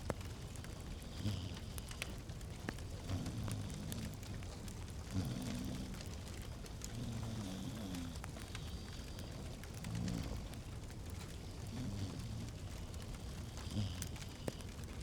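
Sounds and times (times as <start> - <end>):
log fire crackling: 0.0 - 15.0
low fire rumble: 0.0 - 15.0.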